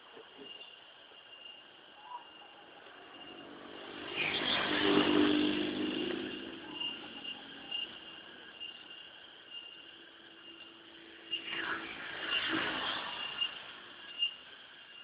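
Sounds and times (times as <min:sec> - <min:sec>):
high-pitched insect trill: 0:00.0 - 0:15.0
vehicle passing on road: 0:02.8 - 0:15.0.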